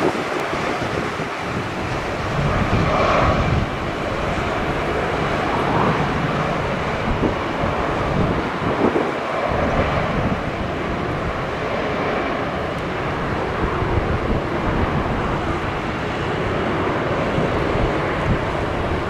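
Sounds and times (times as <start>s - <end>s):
jet engines humming and rumbling: 0.0s - 19.0s.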